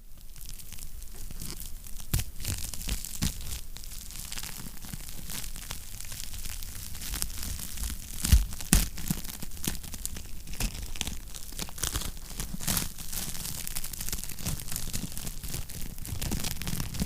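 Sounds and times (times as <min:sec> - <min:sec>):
wood fire snapping and popping: 0:00.2 - 0:17.0.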